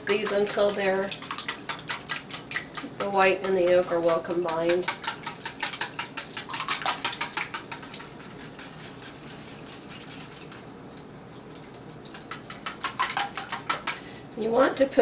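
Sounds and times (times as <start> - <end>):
whisk beating eggs in metal bowl: 0.0 - 10.7, 12.0 - 15.0.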